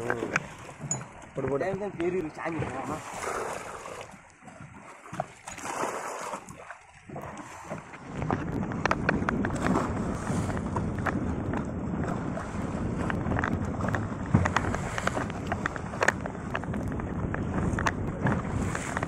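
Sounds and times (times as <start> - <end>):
water sloshing against boat hull: 0.0 - 19.0
wind buffeting microphone: 0.0 - 19.0.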